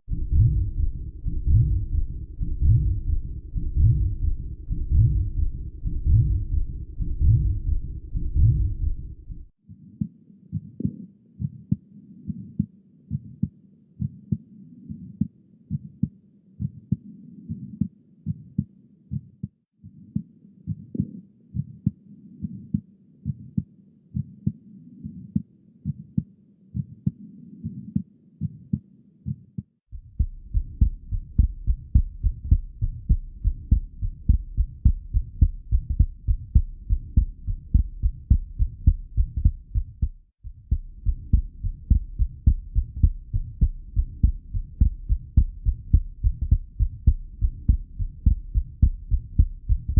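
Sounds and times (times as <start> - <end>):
heartbeat: 0.0 - 49.9.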